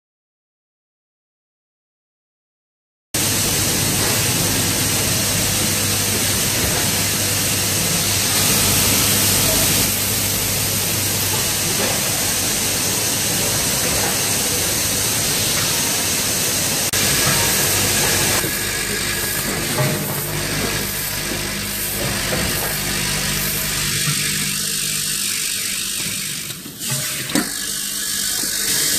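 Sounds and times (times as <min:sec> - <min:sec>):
packing machinery low hum: 0:03.2 - 0:26.8.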